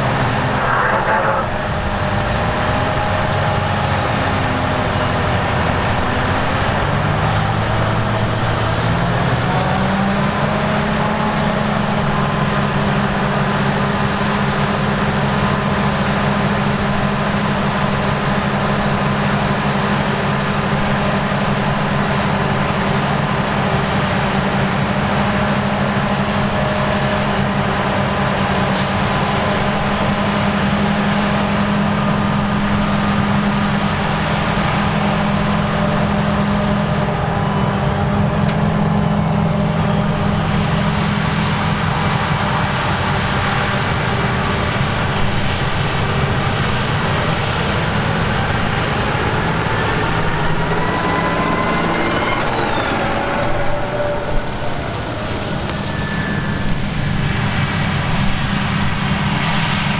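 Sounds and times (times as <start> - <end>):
mechanical whine: 0.0 - 25.1, 32.7 - 59.7
diesel engine running under load: 0.0 - 59.9.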